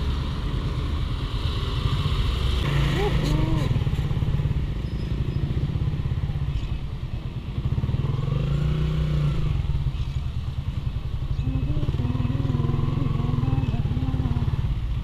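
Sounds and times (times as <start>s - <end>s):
motorcycle engine running: 1.8s - 15.0s.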